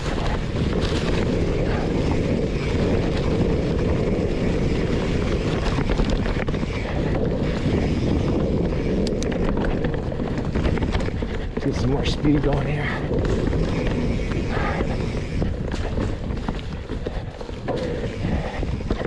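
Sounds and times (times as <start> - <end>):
bike tyre and frame rumble: 0.0 - 19.0
wind buffeting microphone: 0.0 - 19.0.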